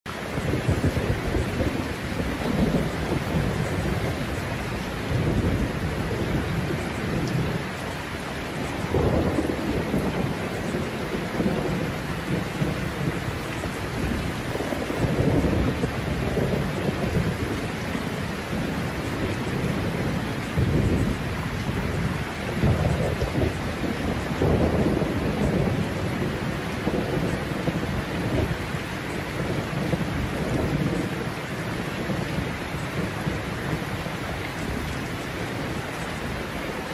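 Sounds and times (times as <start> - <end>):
steady rain: 0.1 - 36.9
low thunder rumbles: 0.2 - 36.9.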